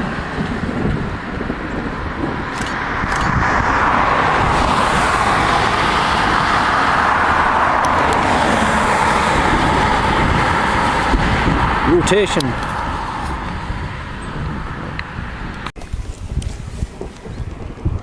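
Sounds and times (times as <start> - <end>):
tyre and road noise: 0.0 - 18.0.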